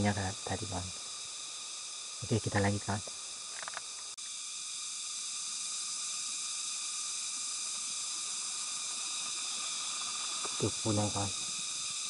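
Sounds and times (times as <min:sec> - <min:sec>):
insect chorus hissing: 0:00.0 - 0:12.0.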